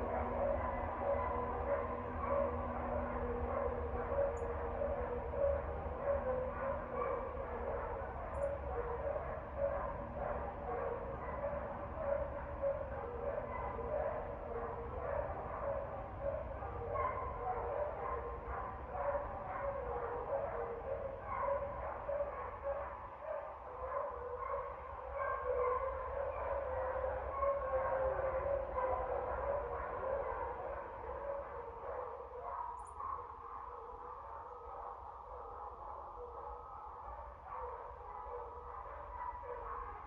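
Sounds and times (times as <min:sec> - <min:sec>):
dogs barking: 0:00.0 - 0:40.0.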